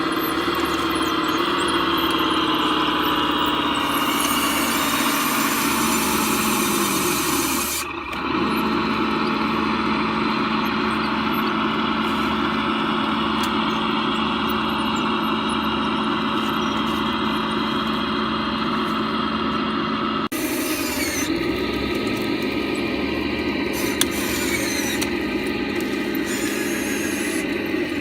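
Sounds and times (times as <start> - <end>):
model bulldozer motor hum: 0.0 - 28.0.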